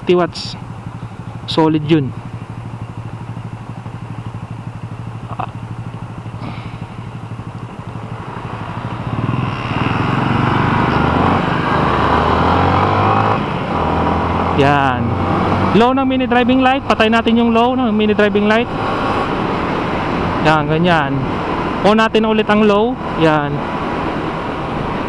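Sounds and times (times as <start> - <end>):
motorcycle engine idling and revving: 0.0 - 25.0
road noise: 0.0 - 25.0.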